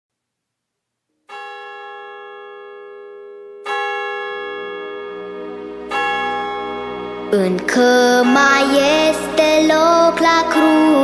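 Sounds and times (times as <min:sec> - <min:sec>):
bell-like chords ringing: 0:01.2 - 0:11.0.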